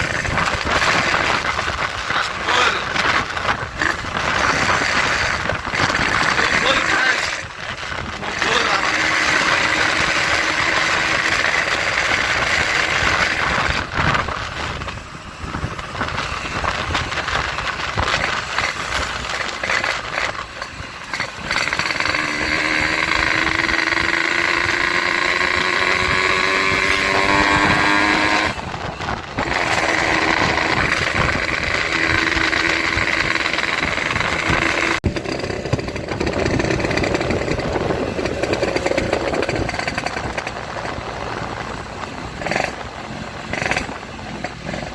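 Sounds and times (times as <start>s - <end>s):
motorcycle engine revving loudly: 0.0s - 44.9s.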